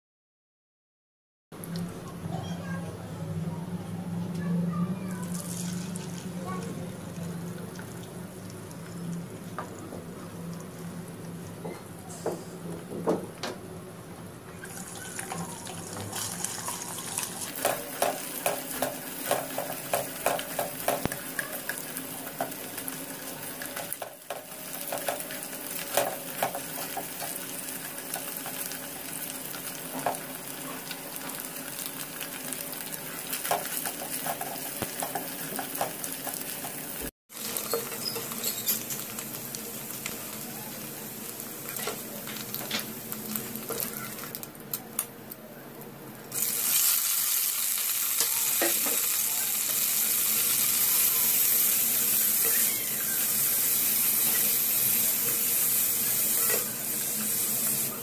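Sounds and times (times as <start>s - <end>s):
eggs sizzling in hot oil: 5.2s - 11.7s, 14.6s - 44.8s, 46.3s - 58.0s.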